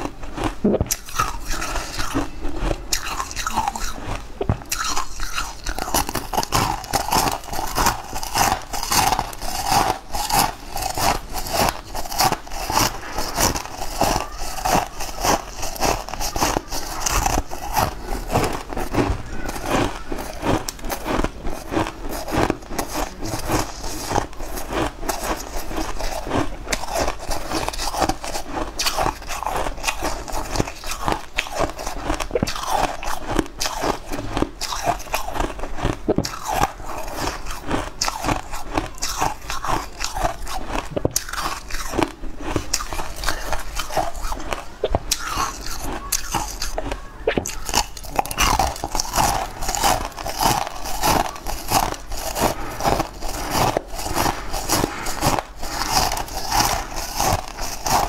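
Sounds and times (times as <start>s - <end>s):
crunching hard candy: 0.0s - 58.0s.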